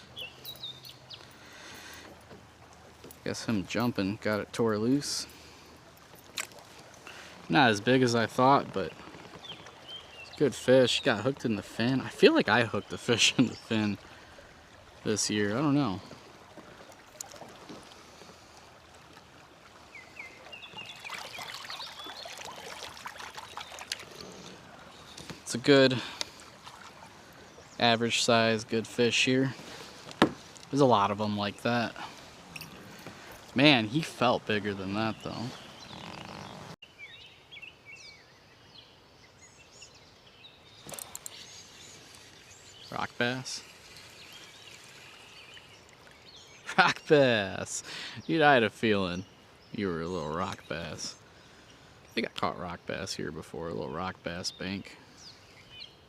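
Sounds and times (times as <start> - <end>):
water splashing and trickling: 0.0 - 36.8, 40.0 - 55.6
outdoor background noise: 0.0 - 56.0
songbird singing: 0.0 - 56.0.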